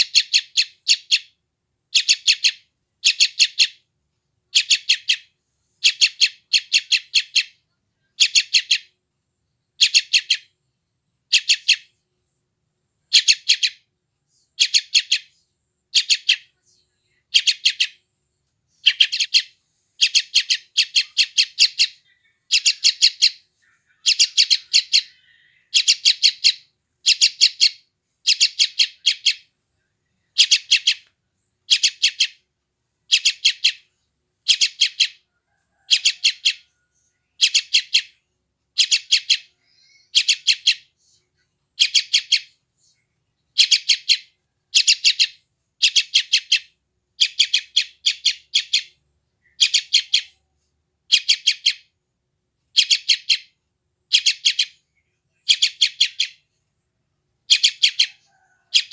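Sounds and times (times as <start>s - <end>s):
bird chick harsh chirps: 0.0s - 3.8s, 4.5s - 9.0s, 9.8s - 10.6s, 11.3s - 12.0s, 13.1s - 13.9s, 14.5s - 16.5s, 17.2s - 18.0s, 18.8s - 29.5s, 30.3s - 41.0s, 41.8s - 42.6s, 43.5s - 50.5s, 51.1s - 52.0s, 52.7s - 56.6s, 57.4s - 58.9s.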